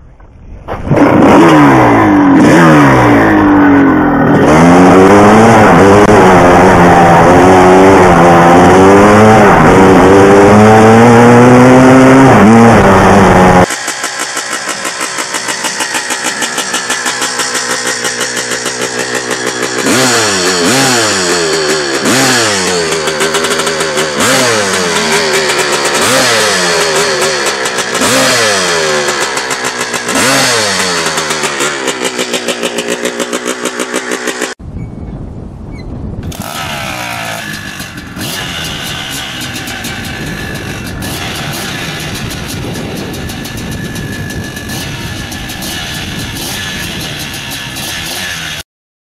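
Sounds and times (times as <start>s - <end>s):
wind: 0.0s - 48.6s
two-stroke motorcycle engine revving: 0.9s - 34.6s, 36.2s - 48.6s.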